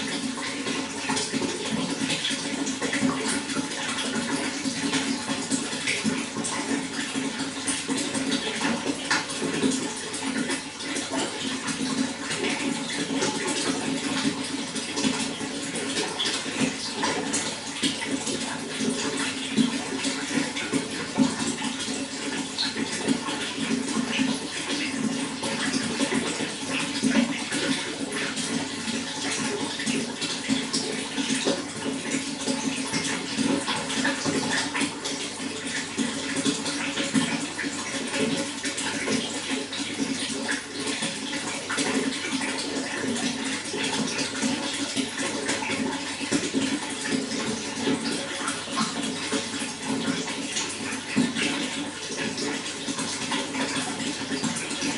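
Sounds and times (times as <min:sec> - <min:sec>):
running water splashing: 0:00.0 - 0:54.9.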